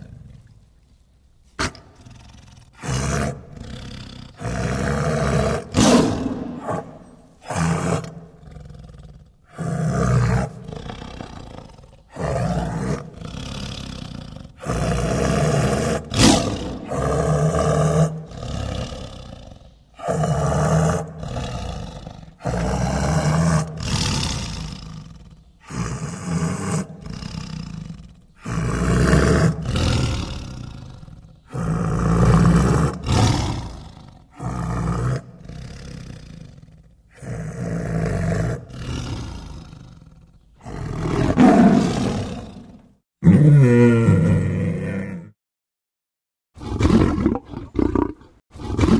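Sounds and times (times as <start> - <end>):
tiger roaring: 1.6 - 45.4, 46.6 - 48.9.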